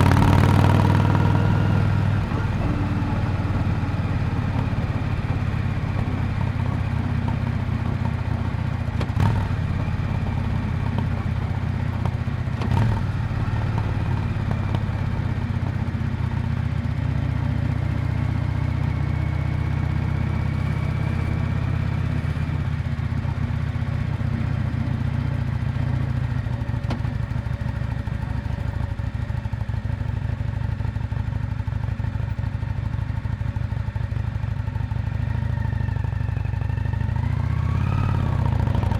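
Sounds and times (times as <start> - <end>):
motorcycle exhaust cruising: 0.0 - 38.9.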